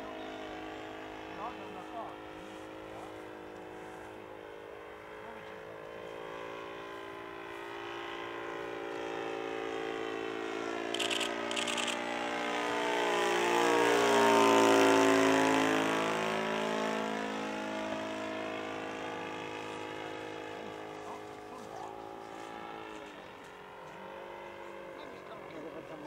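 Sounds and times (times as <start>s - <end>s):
model plane engine passing: 0.0s - 26.0s.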